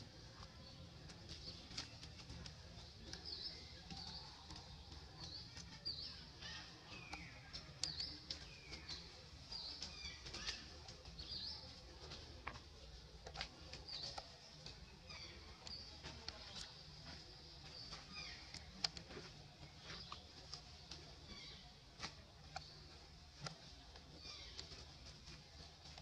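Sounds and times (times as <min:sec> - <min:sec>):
small clicks and rustles: 0:00.2 - 0:26.0.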